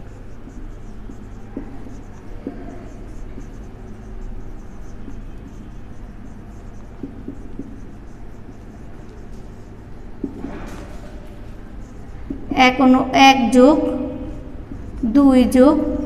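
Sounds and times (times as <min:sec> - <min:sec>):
low background hum: 0:00.0 - 0:16.0
marker pen writing on whiteboard: 0:00.0 - 0:16.0.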